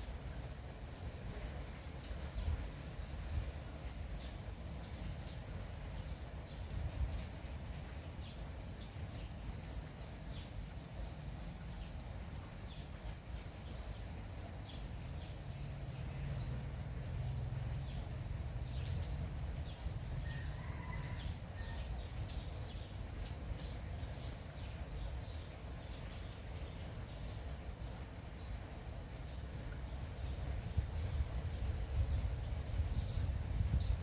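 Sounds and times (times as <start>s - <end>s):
drizzling rain: 0.0s - 34.0s
small birds chirping: 0.4s - 34.0s.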